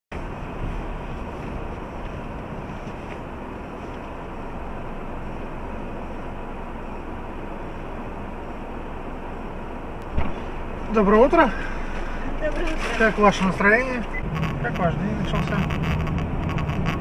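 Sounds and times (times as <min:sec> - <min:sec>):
car engine idling: 0:00.1 - 0:17.0.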